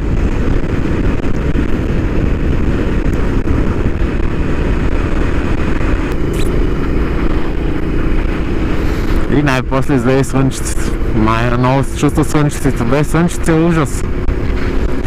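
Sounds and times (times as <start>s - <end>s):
motorcycle engine drone: 0.0s - 15.0s
rushing wind: 0.0s - 15.0s.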